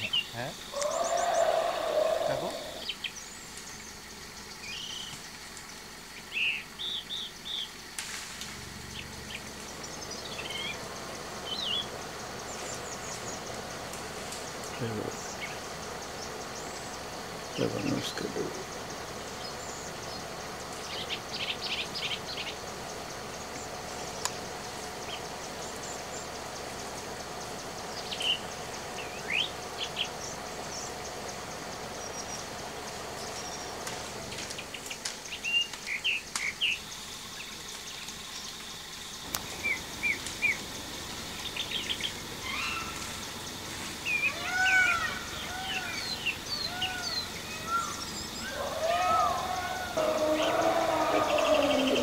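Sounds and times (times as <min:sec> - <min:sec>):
background hiss: 0:00.0 - 0:52.0
birds chirping and calling: 0:00.0 - 0:52.0
faint steady hum: 0:00.0 - 0:52.0.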